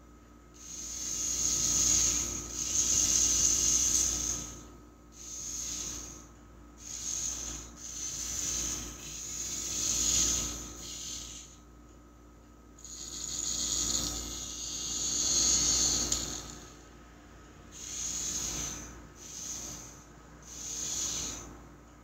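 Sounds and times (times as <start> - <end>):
toy robot motors whirring: 0.6 - 11.6, 12.8 - 16.8, 17.7 - 21.5.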